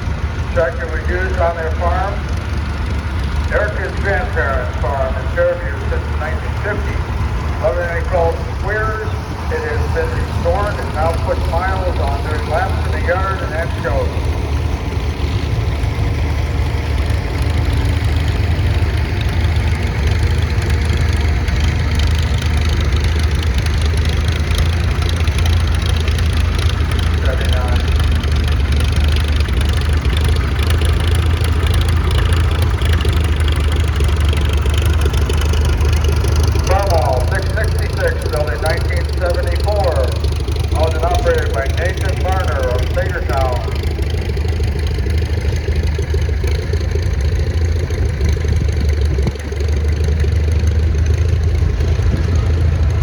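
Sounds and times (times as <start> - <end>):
tractor engines rumbling: 0.0 - 53.0.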